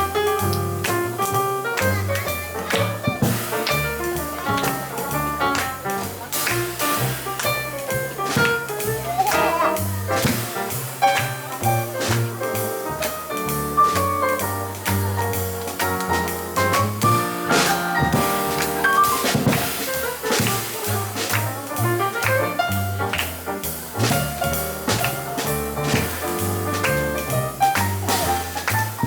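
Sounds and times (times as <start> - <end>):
double bass walking line: 0.0 - 29.0
piano chords and melody: 0.0 - 29.0.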